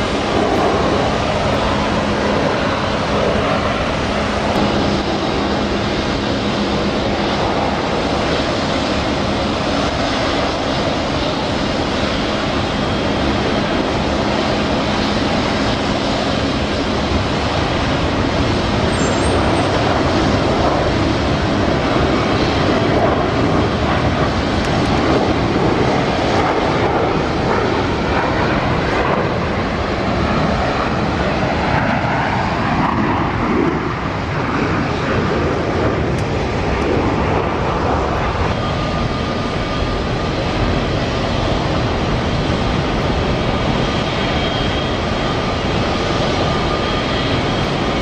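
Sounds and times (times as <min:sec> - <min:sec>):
faint jet whine: 0:00.0 - 0:48.0
jet engines roaring: 0:00.0 - 0:48.0.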